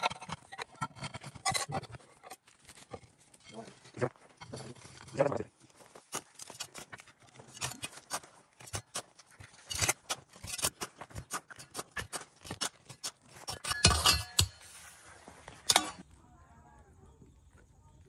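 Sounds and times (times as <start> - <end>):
dirt and stones hitting tiles: 0.0 - 16.0
metal shovel scraping soil: 0.0 - 16.0.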